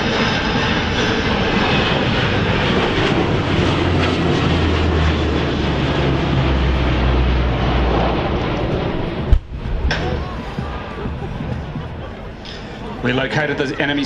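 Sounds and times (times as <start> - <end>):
low drone: 0.0 - 13.1
aircraft engine noise: 0.0 - 14.0.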